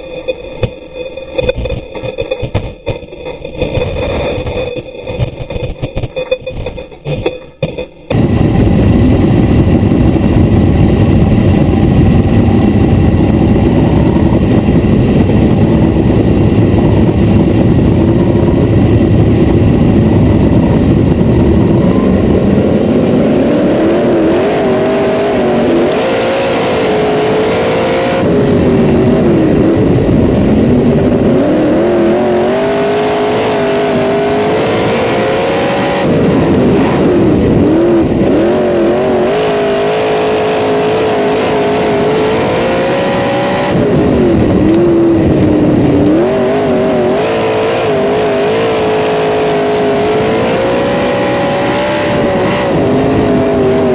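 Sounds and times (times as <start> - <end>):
other race cars: 0.0 - 53.9
race car engine roaring: 7.7 - 53.9.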